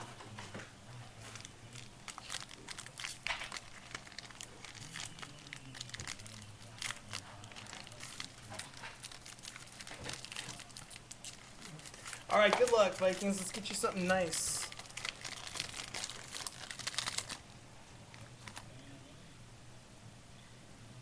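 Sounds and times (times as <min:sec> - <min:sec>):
foil wrapper crinkling: 0:01.2 - 0:17.5, 0:18.1 - 0:18.8.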